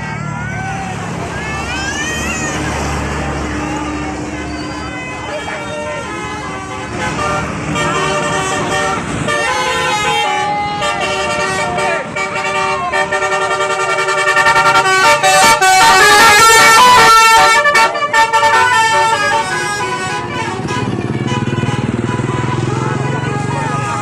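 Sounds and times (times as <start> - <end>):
bus horn playing a melody: 2.7 - 24.0.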